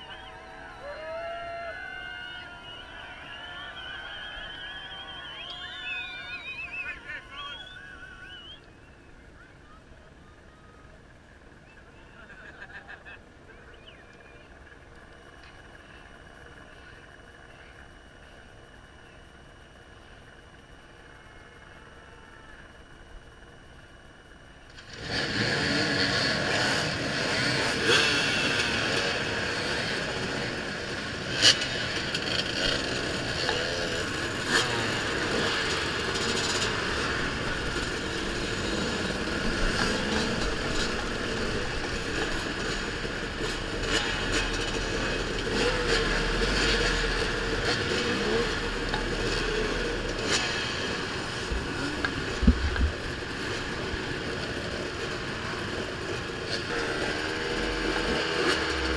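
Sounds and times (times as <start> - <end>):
dirt bike engines revving: 0.0 - 9.0, 10.9 - 58.9.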